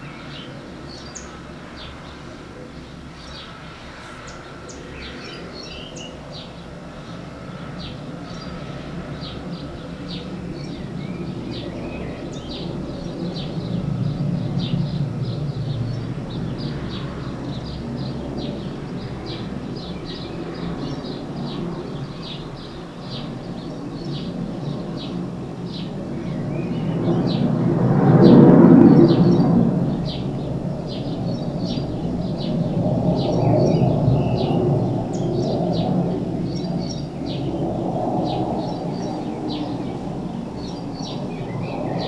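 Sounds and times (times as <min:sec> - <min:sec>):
small birds chirping: 0:00.0 - 0:27.4, 0:28.9 - 0:42.0.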